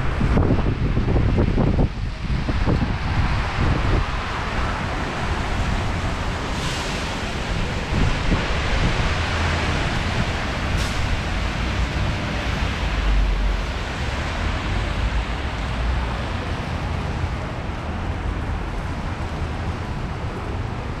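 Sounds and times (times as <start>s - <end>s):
low traffic rumble: 0.0s - 21.0s
tyres on wet pavement: 0.0s - 21.0s.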